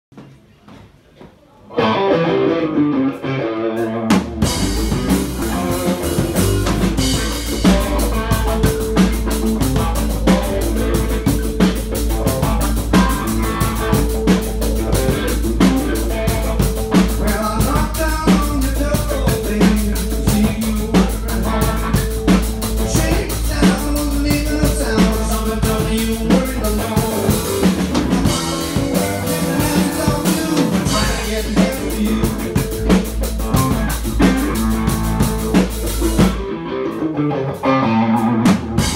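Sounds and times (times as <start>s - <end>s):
blues band playing live: 1.7s - 38.9s.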